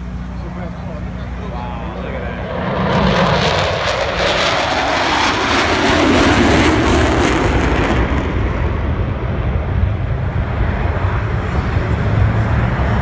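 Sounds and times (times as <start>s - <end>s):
jet engines passing over: 0.0s - 13.0s
low rumble: 0.0s - 13.0s.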